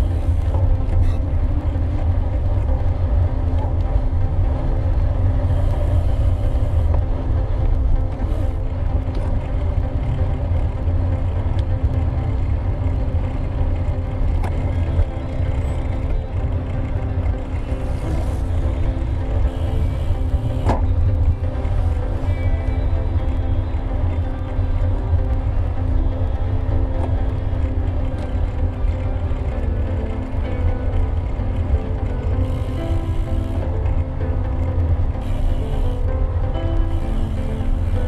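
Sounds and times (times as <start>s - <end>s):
steady pitched tones: 0.0s - 38.0s
wind rumble on microphone: 0.0s - 38.0s.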